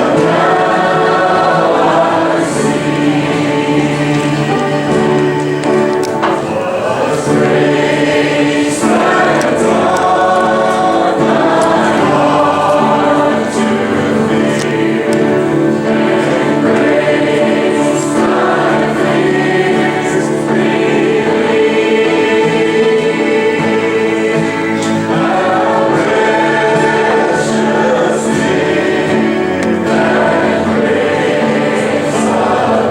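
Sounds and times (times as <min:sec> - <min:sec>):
choir singing: 0:00.0 - 0:32.9.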